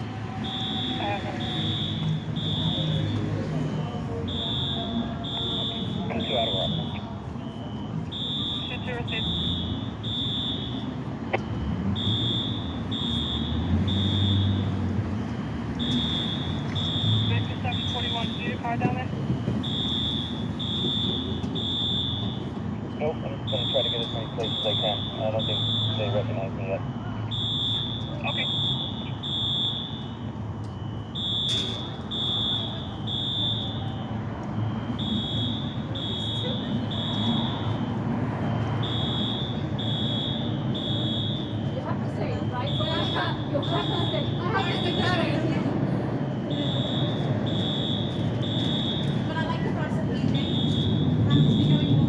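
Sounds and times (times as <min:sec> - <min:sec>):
fire alarm pulsing tone: 0:00.0 - 0:52.0.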